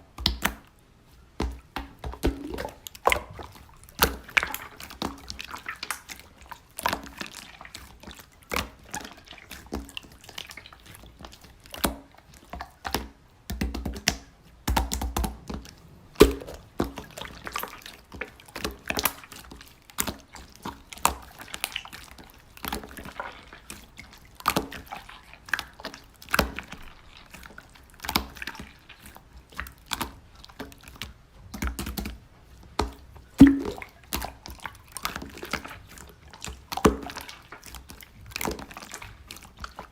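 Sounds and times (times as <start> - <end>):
slime squelching and clicking: 1.4 - 39.9.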